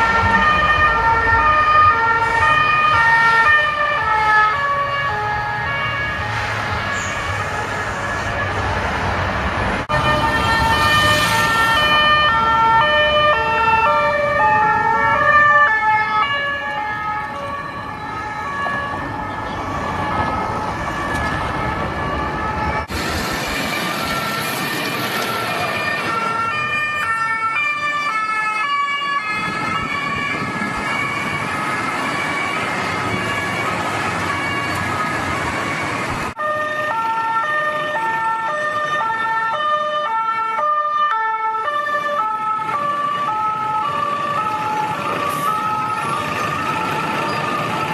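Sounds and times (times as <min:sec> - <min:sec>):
traffic noise: 0:00.0 - 0:47.9
two-tone police sirens: 0:00.0 - 0:47.9.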